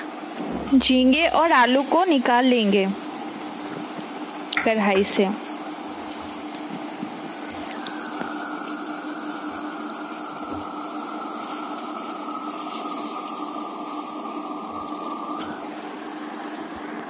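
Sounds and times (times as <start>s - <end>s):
high whine: 0.0s - 17.0s
machine hum and hiss: 0.0s - 17.0s.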